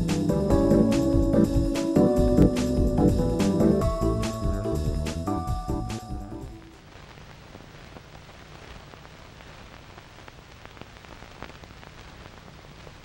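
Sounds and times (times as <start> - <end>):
film soundtrack hiss and crackle: 0.0 - 13.0.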